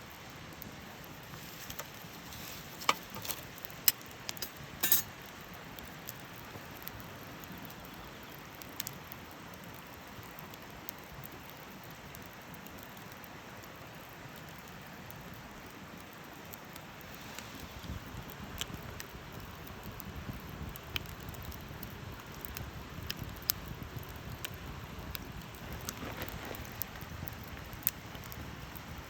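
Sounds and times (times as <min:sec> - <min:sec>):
campfire hissing: 0:00.0 - 0:29.0
wood crackling and popping: 0:00.0 - 0:29.0.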